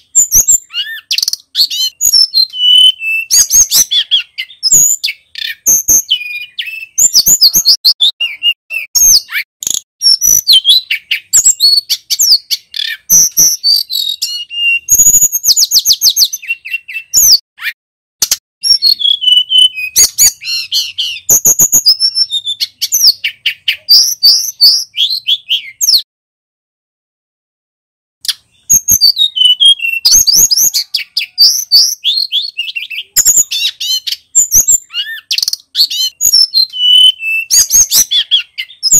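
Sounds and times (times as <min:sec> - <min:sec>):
songbird chirps and trills: 0:00.0 - 0:17.8, 0:18.6 - 0:26.1, 0:28.2 - 0:38.9.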